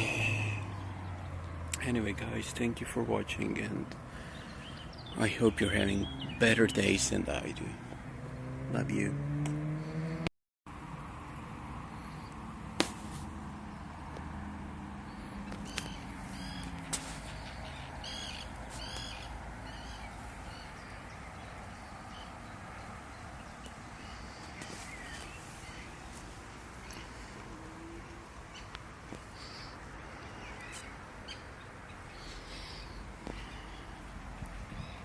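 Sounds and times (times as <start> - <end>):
birds calling: 0.0 - 10.2, 14.9 - 35.0
outdoor background hiss: 0.0 - 35.0.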